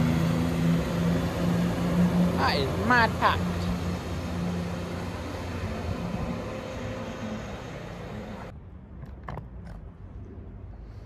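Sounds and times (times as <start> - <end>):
diesel train engine drone: 0.0 - 8.9
wheel and rail noise: 0.0 - 11.0.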